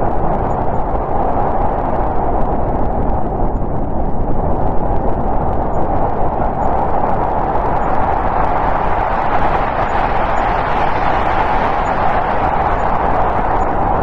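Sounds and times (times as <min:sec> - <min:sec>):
strong snowstorm wind: 0:00.0 - 0:14.0.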